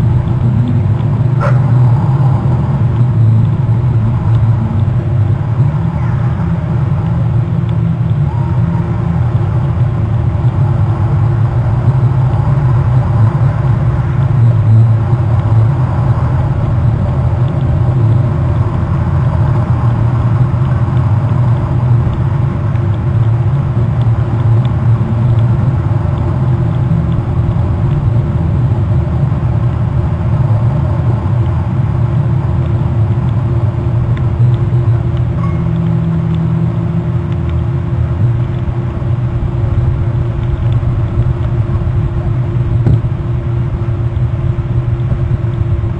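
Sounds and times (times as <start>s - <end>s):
faint constant hum: 0.0s - 45.9s
loud low rumble: 0.0s - 45.9s.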